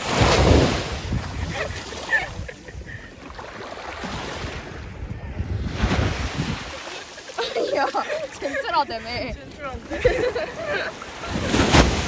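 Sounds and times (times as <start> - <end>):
wind buffeting microphone: 0.0 - 3.3, 4.0 - 12.0.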